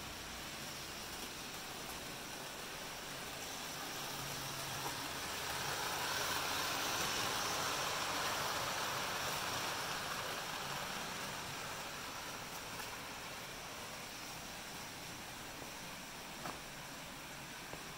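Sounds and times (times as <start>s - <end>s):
model train wheels rumbling: 0.0s - 17.9s.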